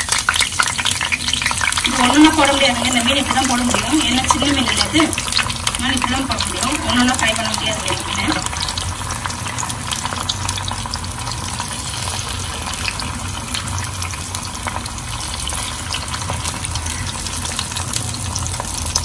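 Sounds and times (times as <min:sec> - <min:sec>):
fish deep-frying in oil: 0:00.0 - 0:19.0.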